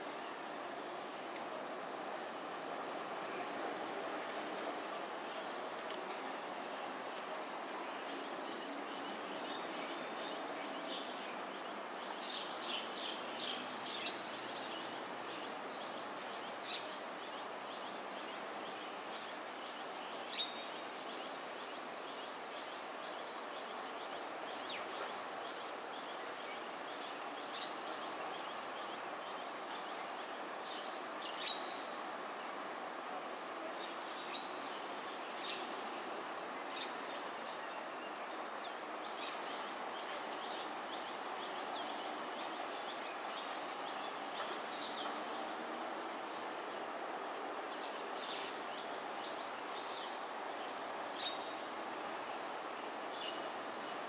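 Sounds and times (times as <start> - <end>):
high-pitched insect chorus: 0.0 - 54.0
outdoor hiss: 0.0 - 54.0.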